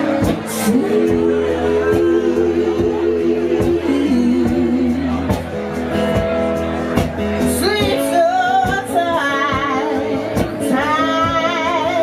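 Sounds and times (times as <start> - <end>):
woman singing: 0.0 - 5.5, 7.5 - 12.0
guitar: 0.0 - 12.0
steady drum beat: 0.0 - 12.0.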